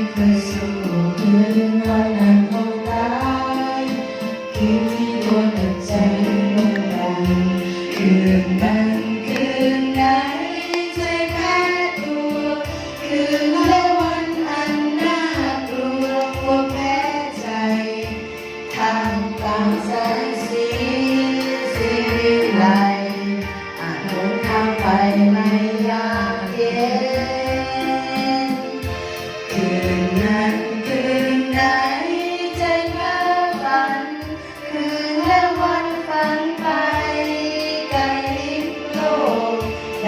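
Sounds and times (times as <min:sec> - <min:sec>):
people singing: 0:00.0 - 0:28.9, 0:29.5 - 0:40.0
band with steady beat: 0:00.0 - 0:40.0.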